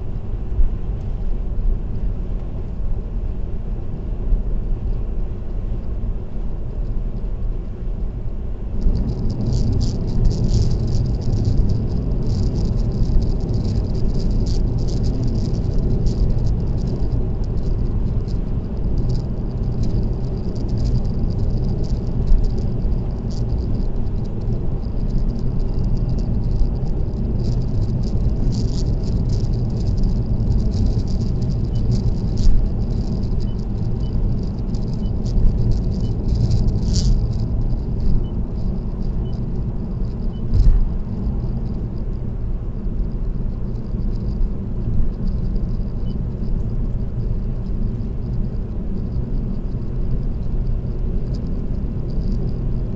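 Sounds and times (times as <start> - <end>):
car tyre and engine rumble: 0.0 - 52.9
small rattles and clicks: 8.8 - 52.9.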